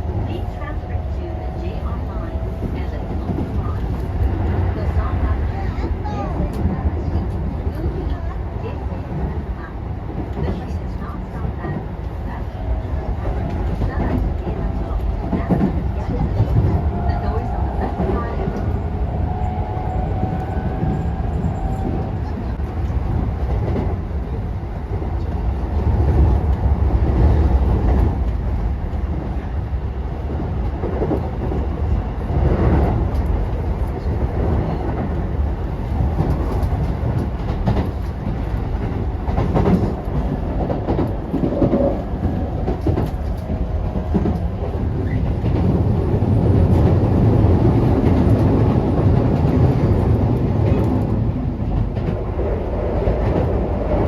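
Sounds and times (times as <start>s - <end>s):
train interior rumble: 0.0s - 54.0s.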